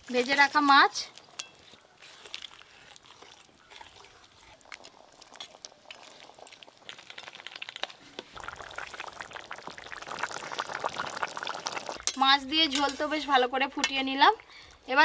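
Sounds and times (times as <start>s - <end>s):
curry bubbling in a wok: 0.0s - 14.4s.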